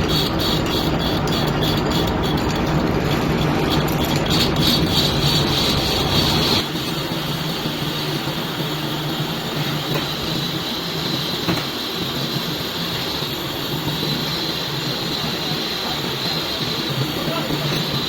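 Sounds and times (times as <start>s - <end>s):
high squealing whine: 0.0s - 18.0s
metal lathe running: 0.0s - 18.0s.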